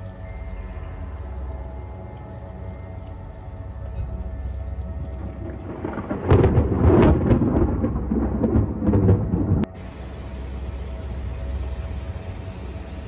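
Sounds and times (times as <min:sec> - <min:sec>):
low background noise: 0:00.0 - 0:13.0
thunder rumbling: 0:00.9 - 0:12.7.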